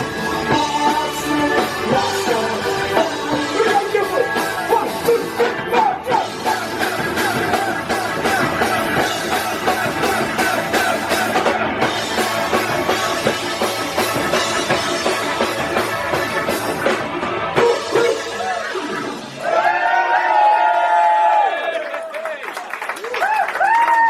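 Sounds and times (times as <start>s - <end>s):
drum-kit beat: 0.0s - 19.4s
loud electric guitars: 0.0s - 21.5s.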